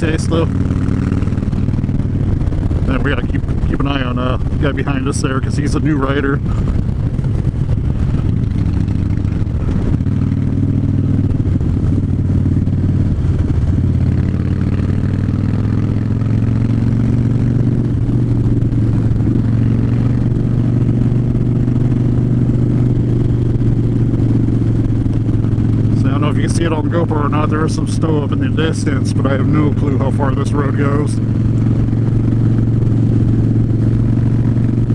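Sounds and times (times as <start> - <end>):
motorcycle engine cruising: 0.0 - 34.9.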